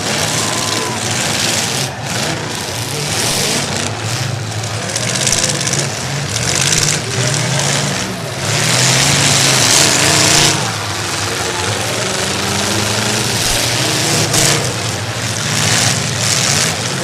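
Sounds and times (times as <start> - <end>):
car engines revving: 0.0 - 17.0
surges of loud noise: 0.0 - 17.0.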